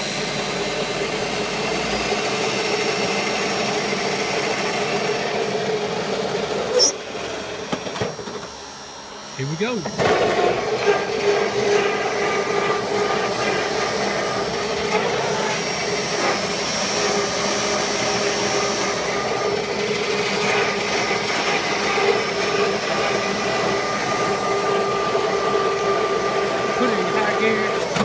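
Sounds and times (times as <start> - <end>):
electric motor whine: 0.0 - 28.0.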